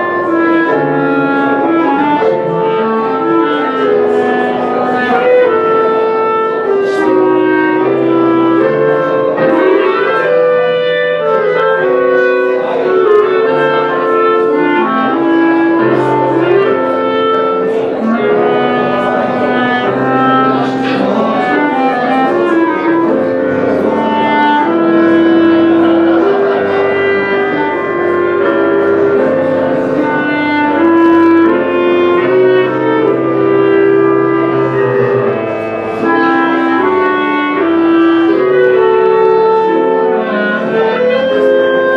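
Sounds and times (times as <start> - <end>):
clarinet duet melody: 0.0 - 41.9
low sustained accompaniment: 0.0 - 41.9.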